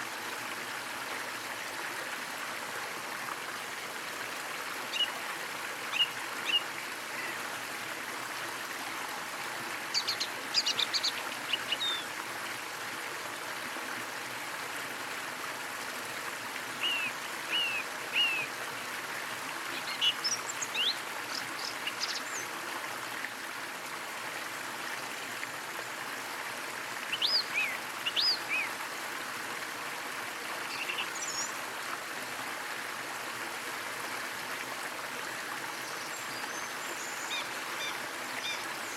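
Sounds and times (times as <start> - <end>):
small waterfall running: 0.0 - 38.9.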